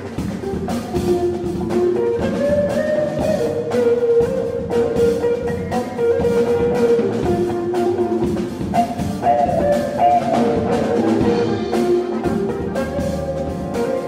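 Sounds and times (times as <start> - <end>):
big band jazz: 0.0 - 14.0
drum kit: 0.0 - 14.0.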